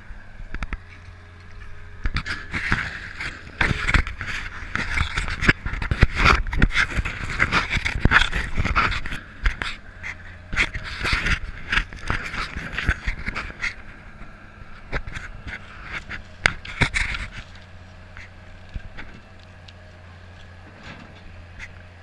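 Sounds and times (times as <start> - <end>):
faint excavator engine running: 0.0 - 22.0.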